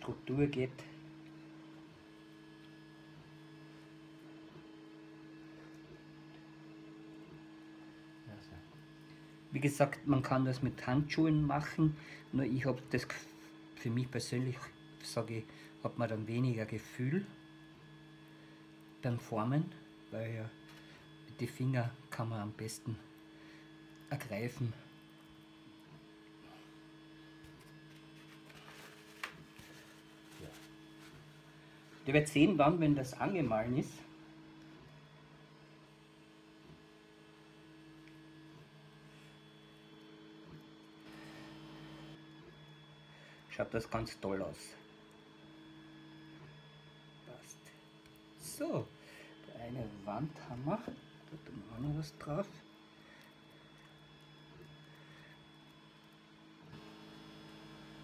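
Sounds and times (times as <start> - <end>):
faint mains hum: 0.0 - 58.0.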